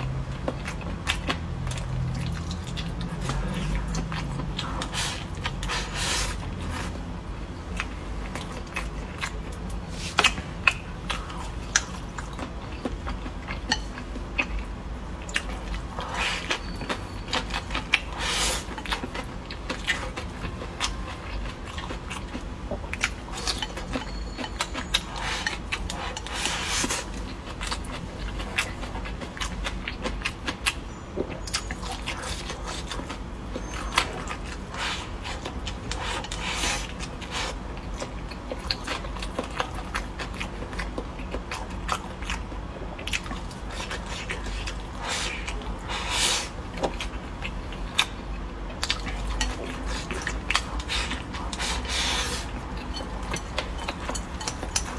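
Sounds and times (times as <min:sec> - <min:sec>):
chewing with smacking mouth: 0:00.0 - 0:54.9.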